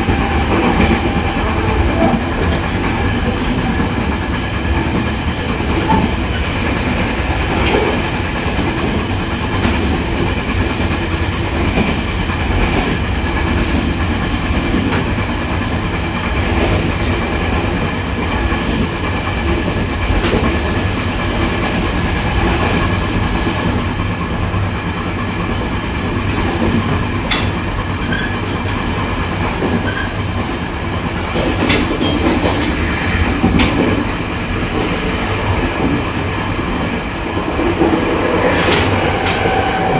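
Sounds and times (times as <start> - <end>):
rail joint clicks: 0.0 - 39.9
train wheels rumbling on rails: 0.0 - 39.9.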